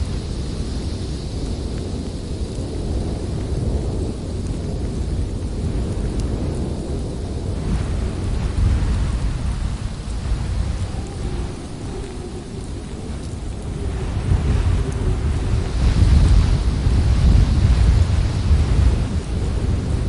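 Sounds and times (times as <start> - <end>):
blizzard wind roaring: 0.0 - 20.0.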